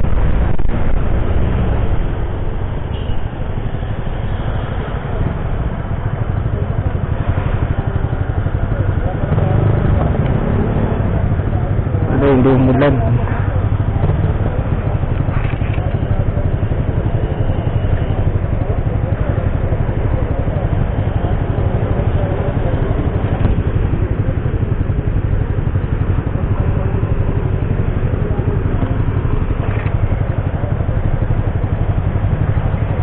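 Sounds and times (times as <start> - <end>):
city traffic: 0.0 - 33.0
motorcycles idling: 0.0 - 33.0
scooter engine idling: 2.0 - 33.0.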